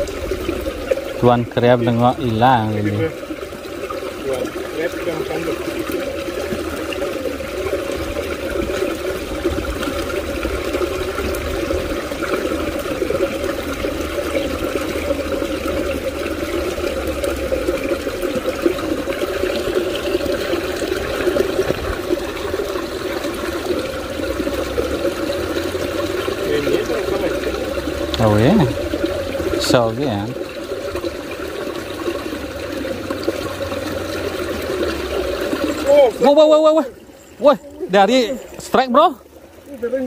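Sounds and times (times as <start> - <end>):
water pouring into a ditch: 0.0 - 40.0.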